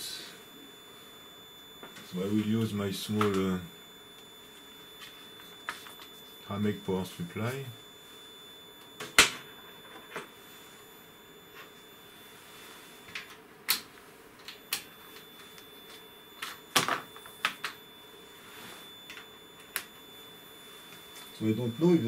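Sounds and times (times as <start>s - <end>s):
faint steady high tone: 0.0s - 22.0s.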